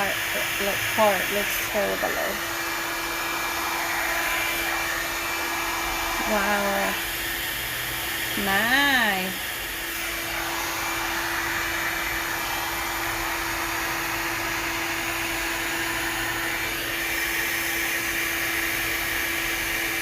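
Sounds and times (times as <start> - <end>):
hair dryer brush blowing air: 0.0 - 20.0.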